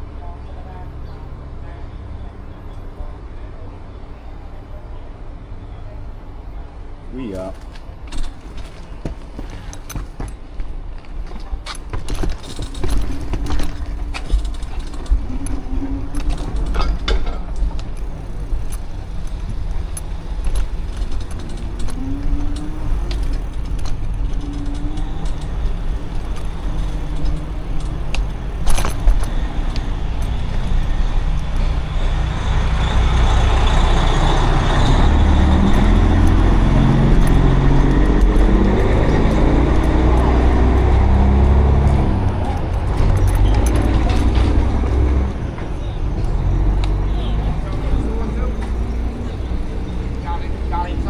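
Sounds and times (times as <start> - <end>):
street traffic: 0.0 - 51.0.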